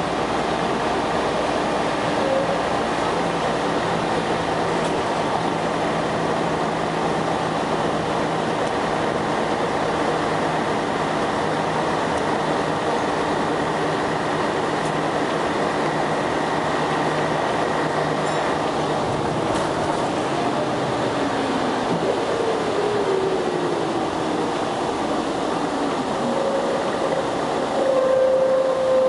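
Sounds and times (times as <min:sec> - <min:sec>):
bus engine drone: 0:00.0 - 0:29.0
road and tyre noise: 0:00.0 - 0:29.0.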